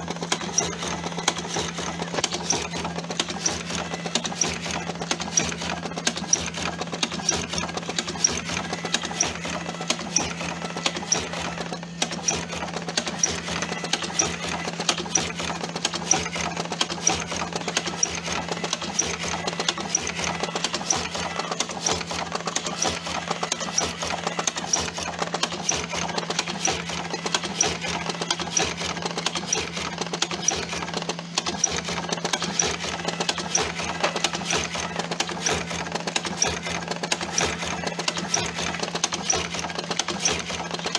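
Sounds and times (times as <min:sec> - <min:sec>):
filling mechanism clicks: 0:00.0 - 0:40.9
machine motor hum: 0:00.0 - 0:40.9.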